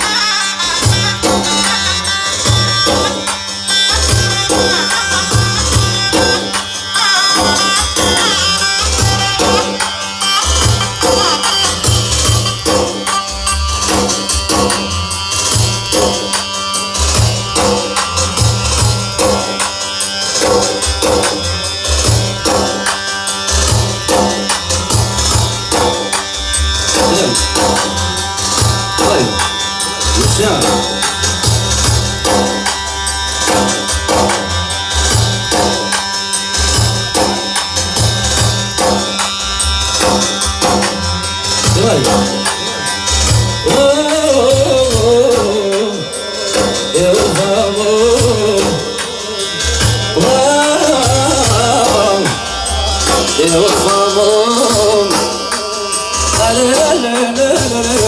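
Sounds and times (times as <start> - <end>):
hand percussion: 0.0 - 58.0
music with heavy drum beat: 0.0 - 58.0.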